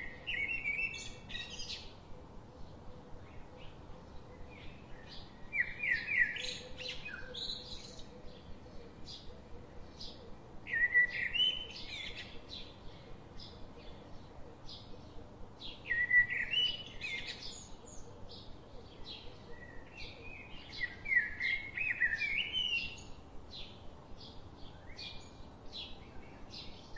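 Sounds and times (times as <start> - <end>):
birds singing rising notes: 0.0 - 26.9.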